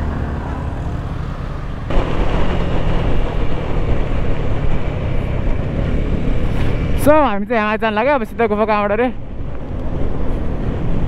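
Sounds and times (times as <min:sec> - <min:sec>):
wind noise: 0:01.8 - 0:11.0.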